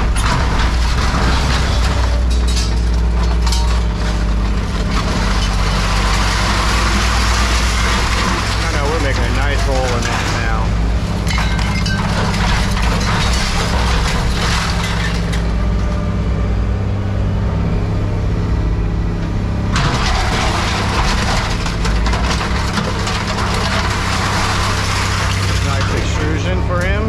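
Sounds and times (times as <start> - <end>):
scrap metal crunching: 0.0 - 16.8, 19.3 - 27.0
diesel engine running: 0.0 - 27.0.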